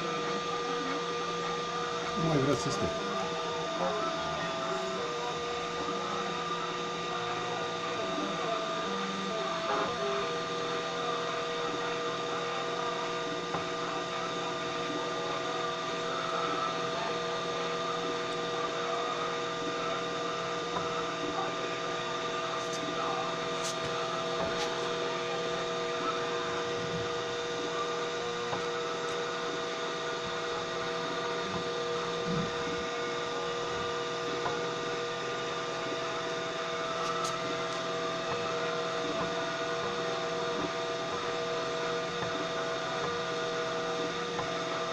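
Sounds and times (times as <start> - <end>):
machine humming with held tones: 0.0 - 44.9.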